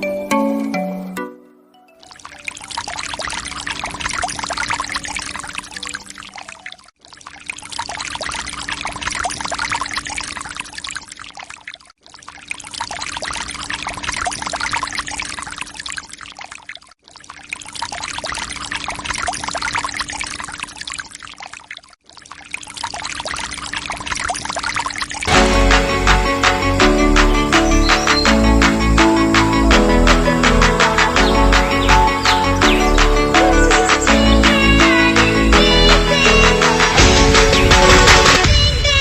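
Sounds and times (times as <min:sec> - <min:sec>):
water pouring and splashing: 0:02.0 - 0:38.6.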